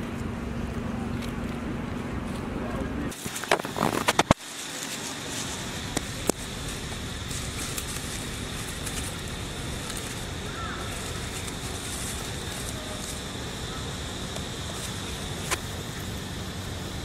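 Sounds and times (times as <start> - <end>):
crackles of dry leaf litter: 0.0 - 17.0
faint high steady whine: 0.0 - 17.0.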